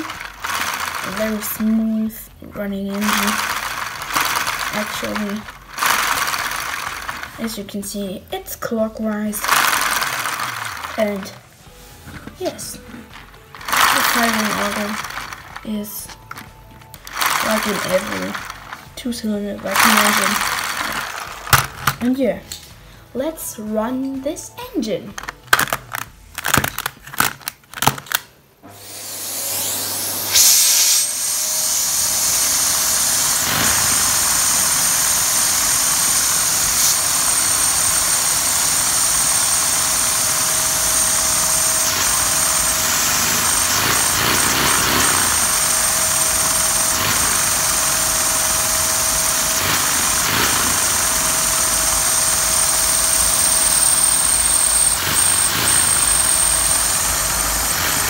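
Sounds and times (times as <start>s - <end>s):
vacuum cleaner motor whining: 0.0s - 1.9s, 2.9s - 7.7s, 9.4s - 22.1s, 25.2s - 58.0s.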